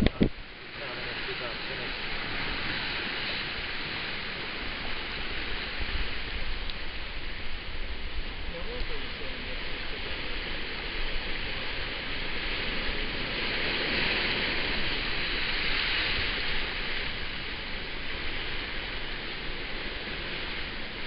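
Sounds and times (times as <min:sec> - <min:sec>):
wind and water rushing: 0:00.0 - 0:21.0
wind buffeting microphone: 0:00.0 - 0:21.0.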